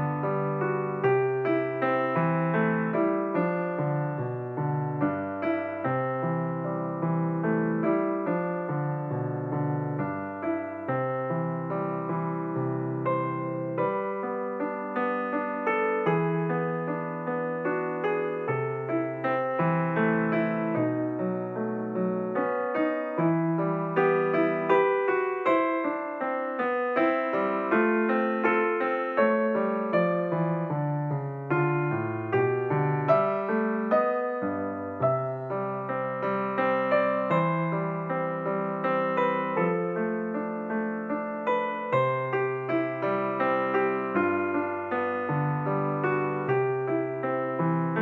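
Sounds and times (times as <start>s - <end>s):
electric piano music: 0.0s - 48.0s.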